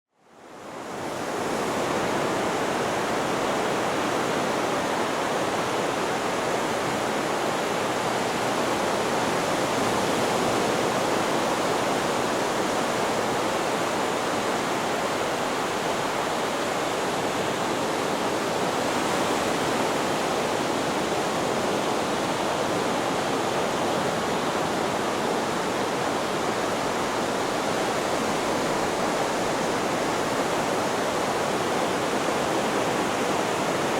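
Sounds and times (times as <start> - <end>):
white noise hiss: 0.2 - 33.9.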